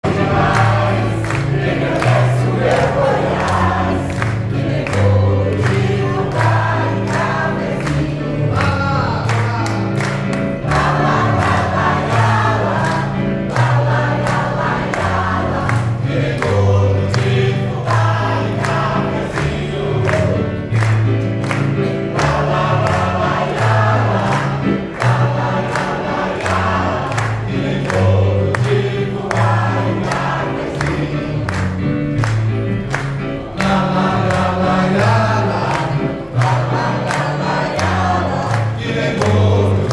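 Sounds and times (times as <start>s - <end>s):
choir singing: 0.0s - 32.2s, 33.4s - 39.9s.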